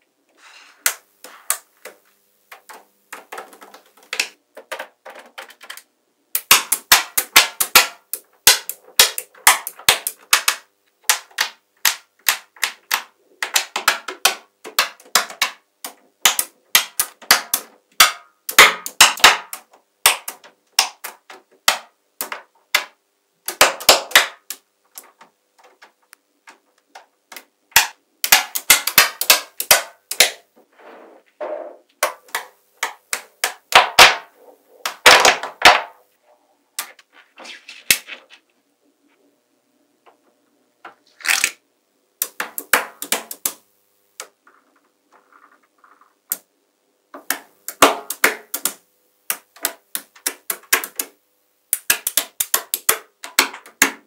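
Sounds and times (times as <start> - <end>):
magnetic balls clicking together: 0.8 - 30.5, 31.9 - 35.8, 42.2 - 43.6, 44.2 - 46.5, 47.1 - 54.0.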